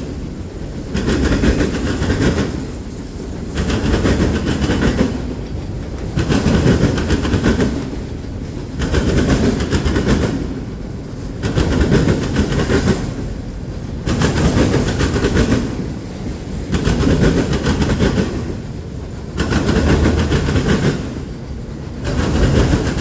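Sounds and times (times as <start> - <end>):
train wheels clicking over rail joints: 0.0 - 23.0.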